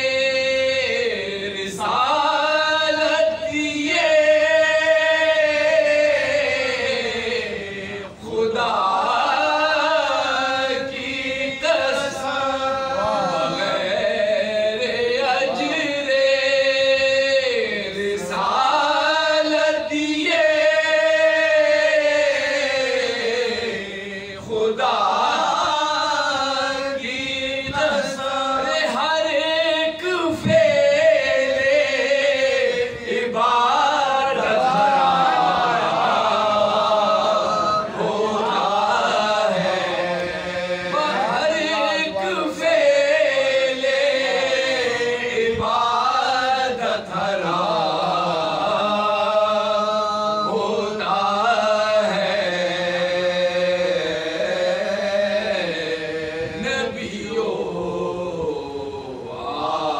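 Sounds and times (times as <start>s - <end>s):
men chanting unaccompanied: 0.0s - 59.9s.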